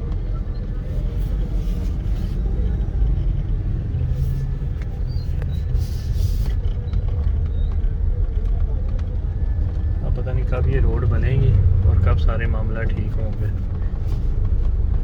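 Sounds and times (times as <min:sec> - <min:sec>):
vehicle rumble from on board: 0:00.0 - 0:15.0.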